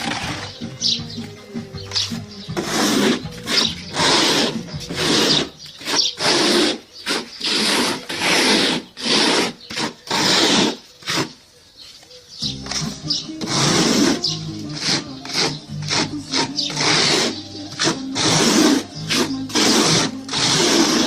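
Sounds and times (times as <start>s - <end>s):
trowel scraping plaster on wall: 2.4s - 11.4s, 12.6s - 21.0s.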